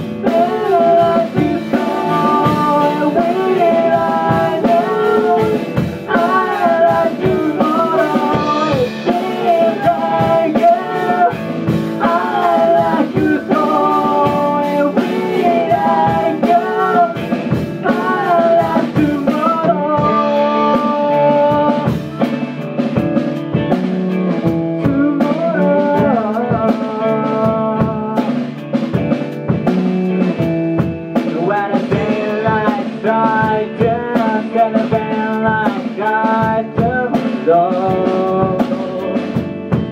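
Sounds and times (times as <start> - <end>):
person singing lead vocal: 0.0 - 22.6, 24.3 - 28.8, 31.2 - 39.9
rock band guitar and drums: 0.0 - 39.9.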